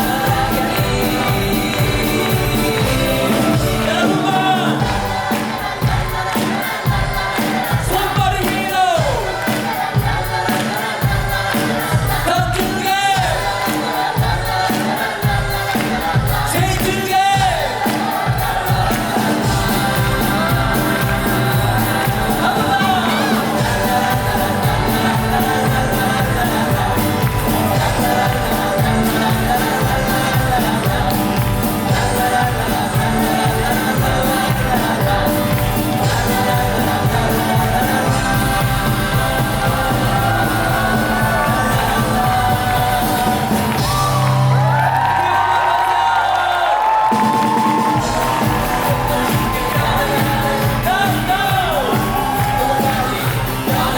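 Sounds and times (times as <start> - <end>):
cast singing: 0.0 - 45.9, 47.2 - 53.9
audience crowd noise: 0.0 - 53.9
band accompaniment with steady beat: 0.0 - 53.9.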